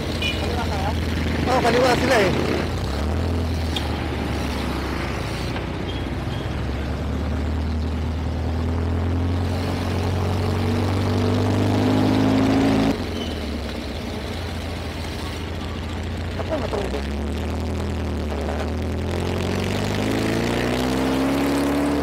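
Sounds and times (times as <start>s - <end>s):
vehicle engines in traffic: 0.0s - 22.0s.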